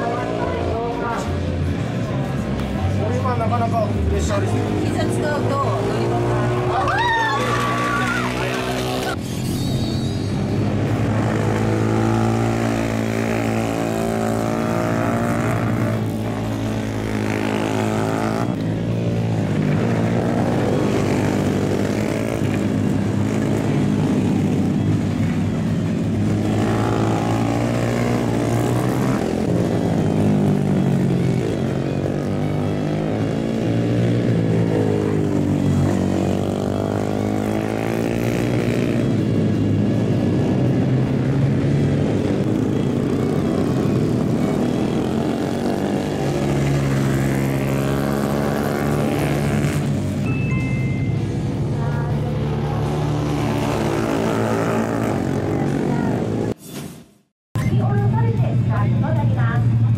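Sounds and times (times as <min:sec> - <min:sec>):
motorbike engines racing past: 0:00.0 - 0:56.6.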